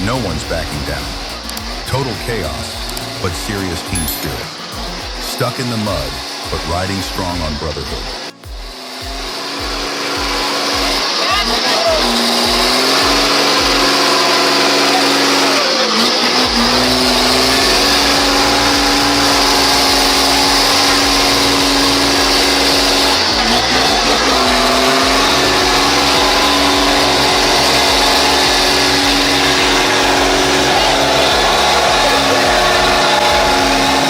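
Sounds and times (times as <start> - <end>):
engine running under load: 0.0 - 34.0.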